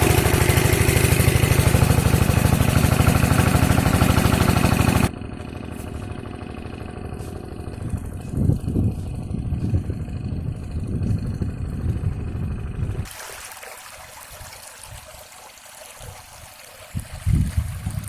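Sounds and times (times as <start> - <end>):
diesel water pump engine running: 0.0 - 18.0.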